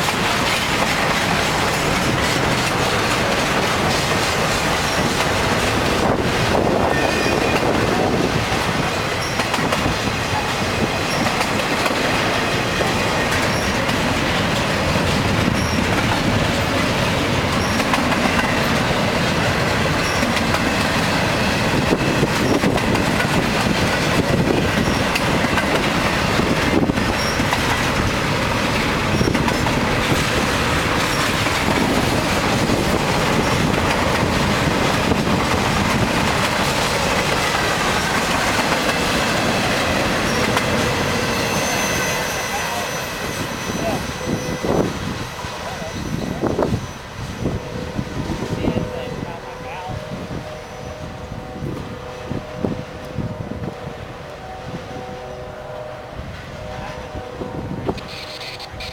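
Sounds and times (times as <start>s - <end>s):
steel wheels clattering on rails: 0.0s - 49.2s
freight train rolling past: 0.0s - 58.9s.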